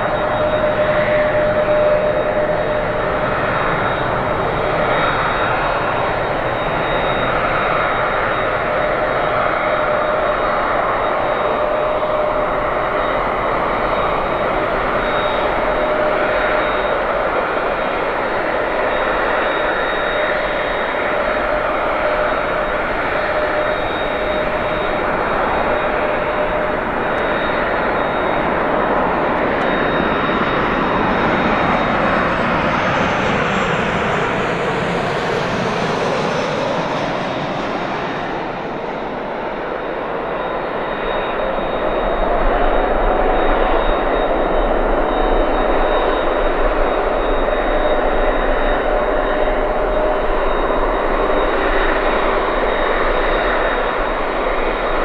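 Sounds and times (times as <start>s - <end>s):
high engine whine: 0.0s - 55.0s
jet engines roaring: 0.0s - 55.0s
lower whining tone: 0.0s - 55.0s.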